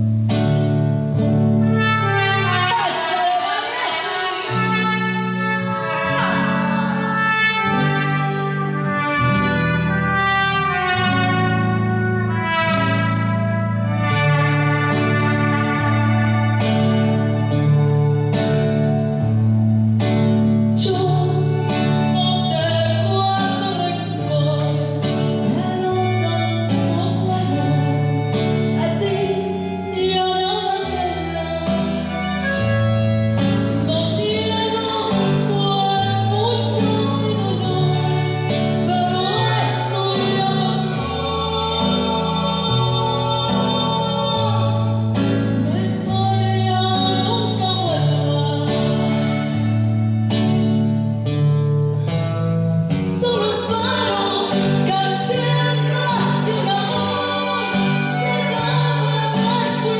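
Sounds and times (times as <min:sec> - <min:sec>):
accordion: 0:00.0 - 0:59.9
acoustic guitar: 0:00.0 - 0:59.9
woman singing: 0:01.8 - 0:17.6, 0:20.7 - 0:32.7, 0:33.8 - 0:49.7, 0:53.0 - 0:59.9.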